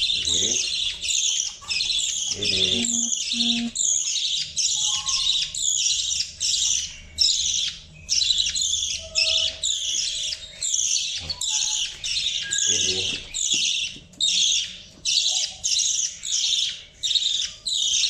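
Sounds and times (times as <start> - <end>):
budgerigar chirping: 0.0 - 18.0.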